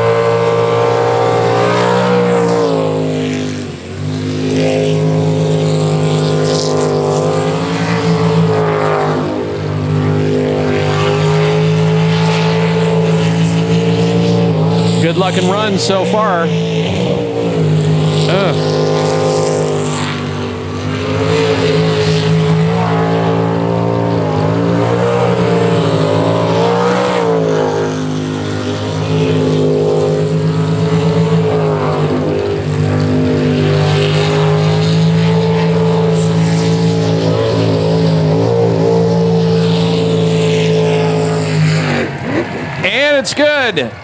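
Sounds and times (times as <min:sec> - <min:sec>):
jet boat engine running hard: 0:00.0 - 0:44.0.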